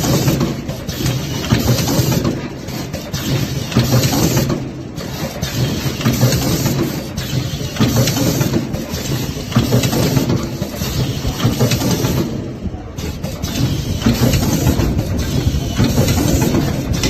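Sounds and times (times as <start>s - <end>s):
machine humming and clattering: 0.0s - 17.0s.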